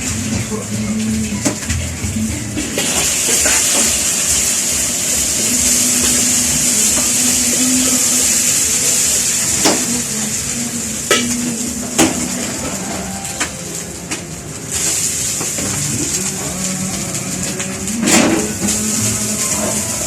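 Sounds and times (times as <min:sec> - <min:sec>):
rice sizzling in a wok: 0:00.0 - 0:20.0.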